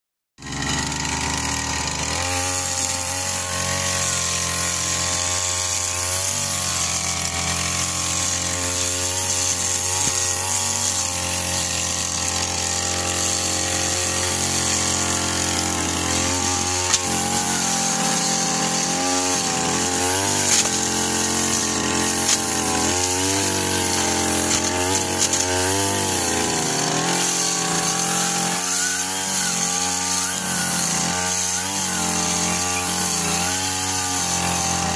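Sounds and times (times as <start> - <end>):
brush cutter engine running: 0.4 - 34.9.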